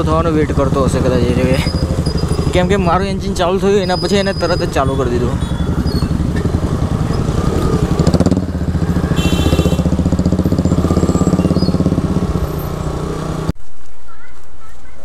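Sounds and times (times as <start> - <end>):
motorcycle engine throbbing: 0.0 - 13.5.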